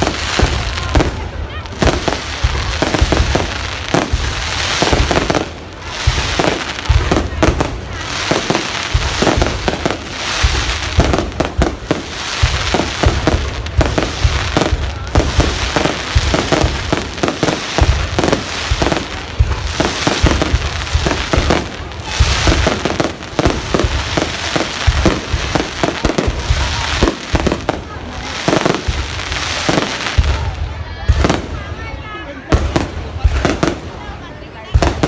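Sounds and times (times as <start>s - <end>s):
fireworks bangs: 0.0s - 35.0s
fireworks crackling: 0.0s - 35.0s.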